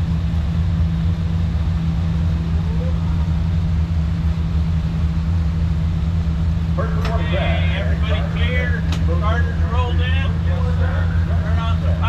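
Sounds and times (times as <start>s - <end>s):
racing engine idling: 0.0s - 12.0s.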